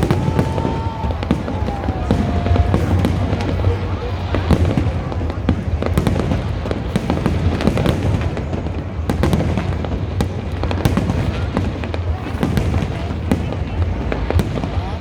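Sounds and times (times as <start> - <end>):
fireworks cracks and pops: 0.0 - 15.0
fireworks rumbling: 0.0 - 15.0.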